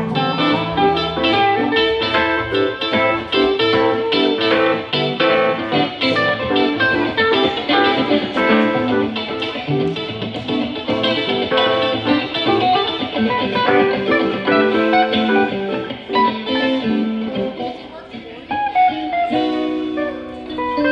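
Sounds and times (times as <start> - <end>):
electric guitars: 0.0 - 20.9
electric keyboard: 0.0 - 20.9.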